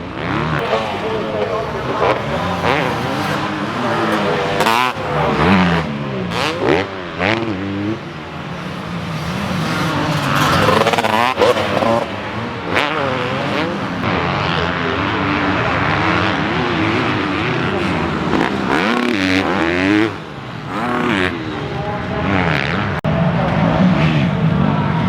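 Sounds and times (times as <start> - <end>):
motocross bike engines revving: 0.0 - 25.0.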